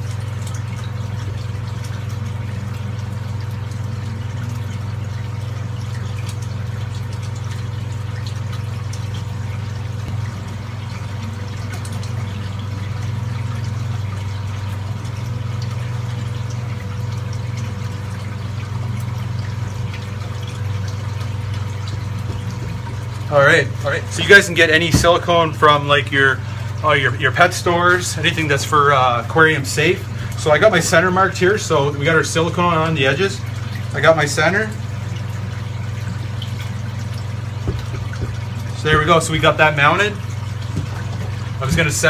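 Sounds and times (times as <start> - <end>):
water pump humming: 0.0 - 42.0.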